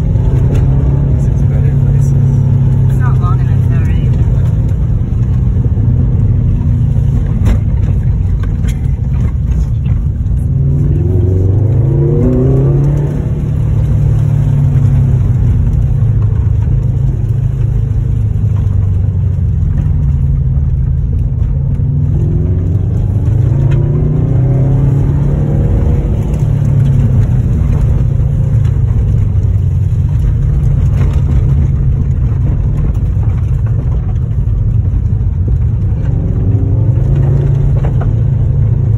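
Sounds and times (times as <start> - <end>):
car engine accelerating: 0.0 - 38.9
tyre and road noise: 0.0 - 38.9.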